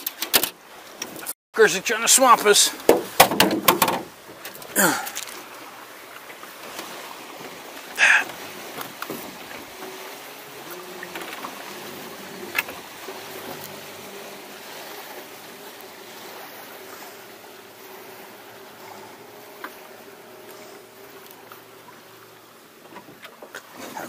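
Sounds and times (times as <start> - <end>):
water lapping against boat hull: 0.0 - 24.0
boat motor humming: 0.6 - 24.0.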